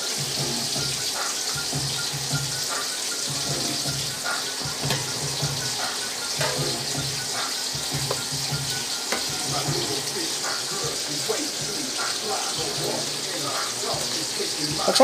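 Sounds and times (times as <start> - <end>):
fish frying in oil: 0.0 - 15.0
water boiling: 0.0 - 15.0.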